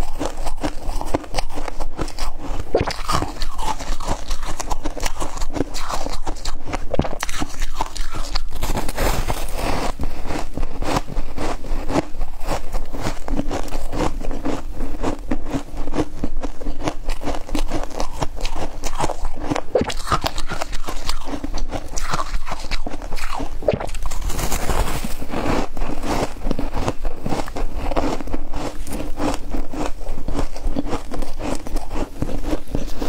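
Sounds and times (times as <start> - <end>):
chewing crunchy ice: 0.0 - 33.0.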